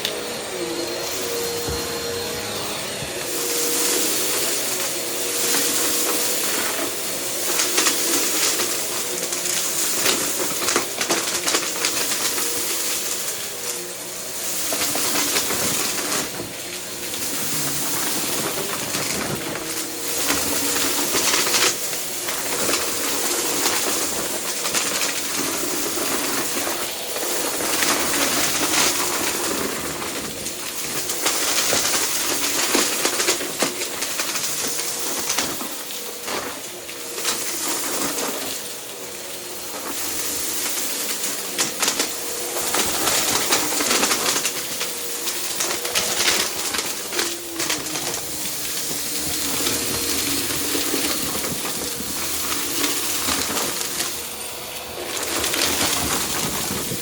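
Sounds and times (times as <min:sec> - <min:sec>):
vacuum cleaner running: 0:00.0 - 0:57.0
debris clicking and rattling: 0:03.3 - 0:57.0.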